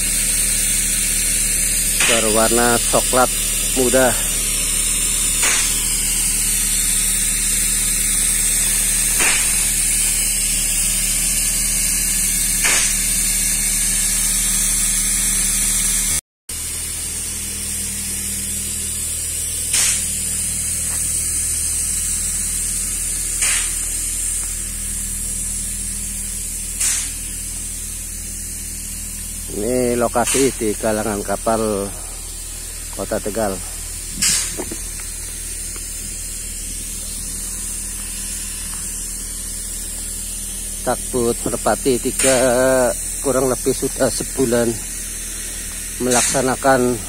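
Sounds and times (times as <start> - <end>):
low machine hum: 0.0 - 47.0
spray gun hissing: 0.0 - 47.0.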